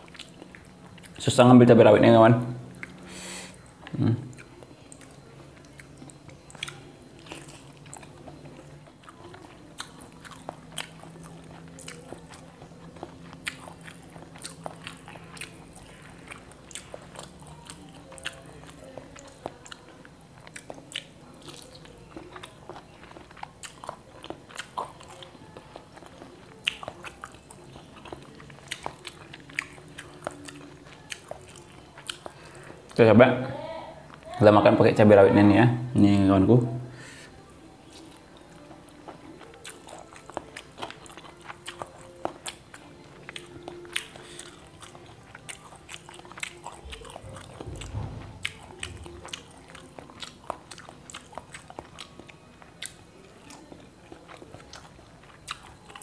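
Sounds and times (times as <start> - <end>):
close-miked chewing and mouth clicks: 0.0 - 1.2, 2.7 - 33.0, 37.7 - 56.0
faint low hum: 0.0 - 56.0.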